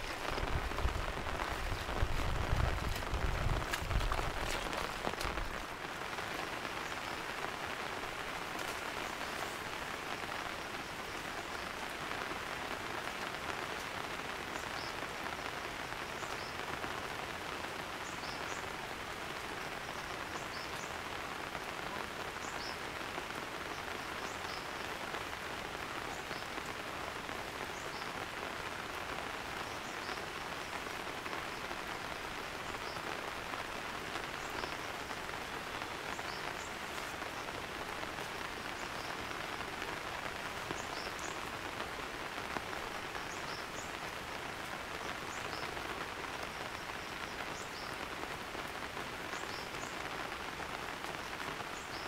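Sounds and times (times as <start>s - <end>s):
rain falling in a forest: 0.0s - 52.0s.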